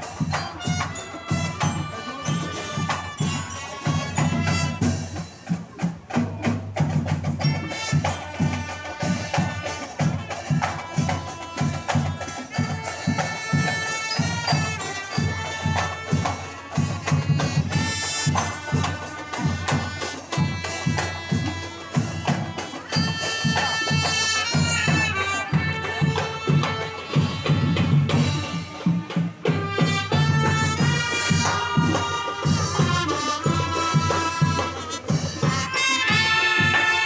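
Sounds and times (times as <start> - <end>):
brass horns playing: 0.0 - 6.2, 6.8 - 37.0
marching drum beat: 0.0 - 37.0.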